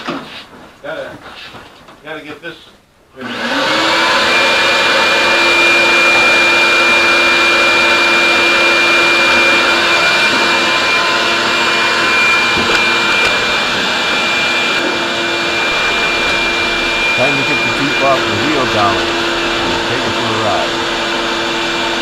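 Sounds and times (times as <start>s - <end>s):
vacuum cleaner running: 3.2s - 22.0s.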